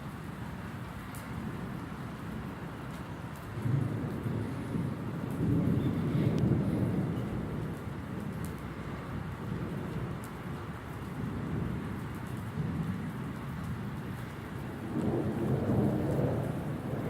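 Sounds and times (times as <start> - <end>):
steady rain: 0.0 - 17.0
thunder rumbling: 1.3 - 17.0.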